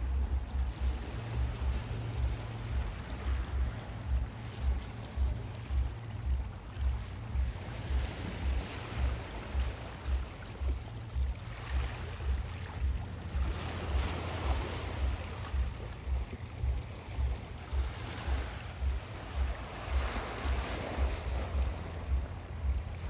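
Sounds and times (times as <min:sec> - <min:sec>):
small waves washing: 0:00.0 - 0:23.0
wind on microphone: 0:00.0 - 0:23.0.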